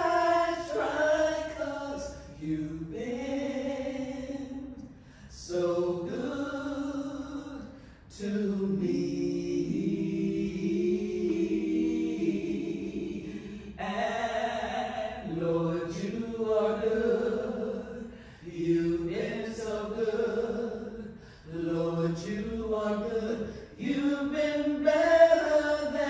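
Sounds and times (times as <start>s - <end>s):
group singing in harmony: 0.0s - 26.0s.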